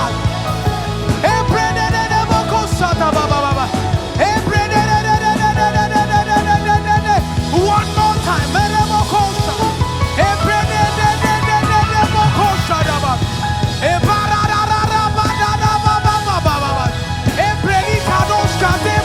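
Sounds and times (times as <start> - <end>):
upbeat gospel band music: 0.0 - 19.0.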